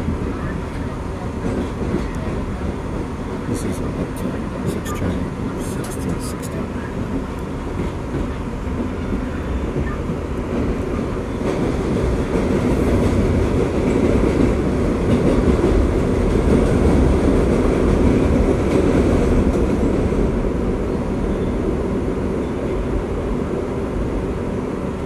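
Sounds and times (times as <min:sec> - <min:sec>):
subway car wheels rumbling: 0:00.0 - 0:25.0.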